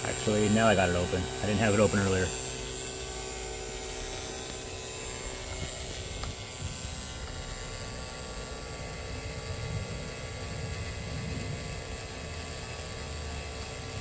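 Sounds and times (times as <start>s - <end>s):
vacuum pump running: 0.0s - 14.0s.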